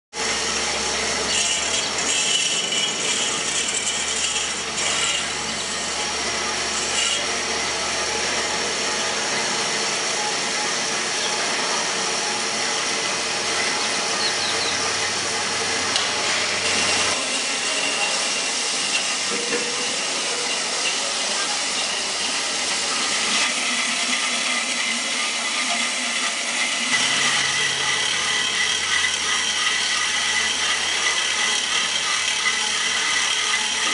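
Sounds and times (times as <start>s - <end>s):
band saw cutting steel pipe: 0.1s - 33.9s
saw motor hum: 0.2s - 33.9s.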